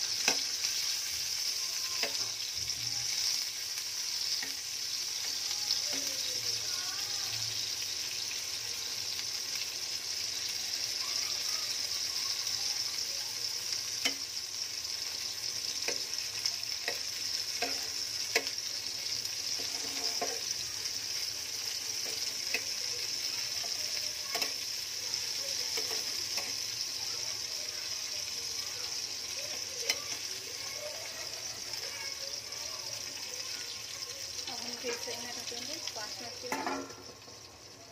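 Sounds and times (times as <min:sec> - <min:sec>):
vegetables sizzling in oil: 0:00.0 - 0:37.9.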